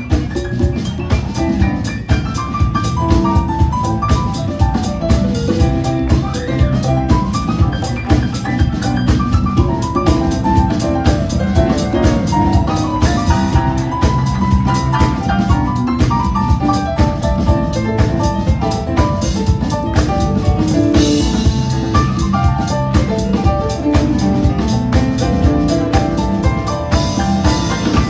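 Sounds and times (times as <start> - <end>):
drum kit beat: 0.0 - 28.0
live band playing: 0.0 - 28.0.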